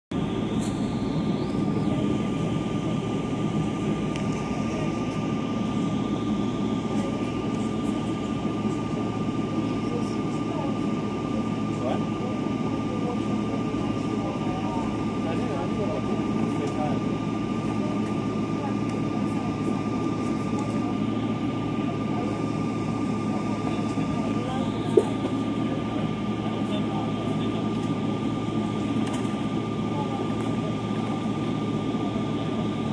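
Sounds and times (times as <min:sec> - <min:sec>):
jet engine rumble in cabin: 0:00.1 - 0:32.9
thin engine whine: 0:00.1 - 0:32.9.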